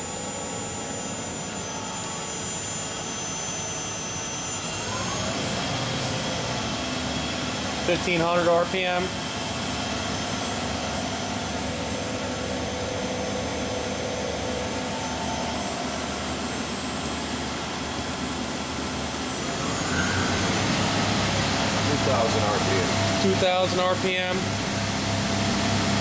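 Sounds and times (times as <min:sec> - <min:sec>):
machine spindle humming: 0:00.0 - 0:26.0.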